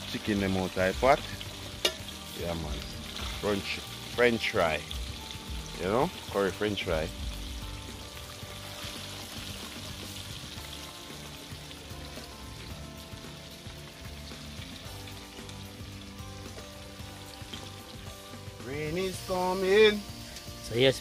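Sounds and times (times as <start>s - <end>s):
chicken sizzling in hot oil: 0.0s - 21.0s
quiet music: 0.0s - 21.0s.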